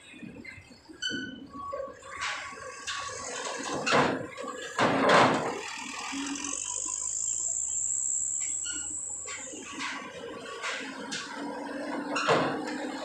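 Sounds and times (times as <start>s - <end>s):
high-pitched whine: 0.0s - 12.6s
wheels clanking over ramp plates: 0.1s - 13.0s
low engine rumble: 1.9s - 13.0s.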